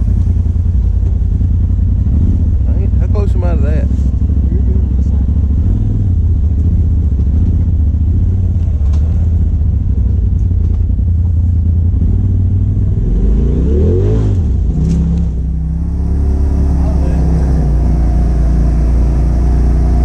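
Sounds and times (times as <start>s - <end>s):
utility vehicle engine running: 0.0s - 20.0s.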